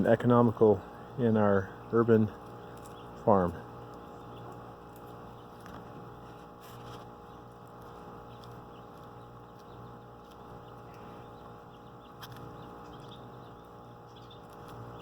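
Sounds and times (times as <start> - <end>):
chickens pecking at leaves: 0.0 - 15.0
steady low hum: 0.0 - 15.0.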